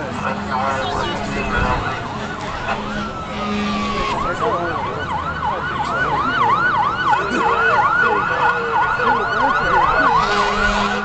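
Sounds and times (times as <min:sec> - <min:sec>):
emergency sirens yelping: 0:00.0 - 0:11.0.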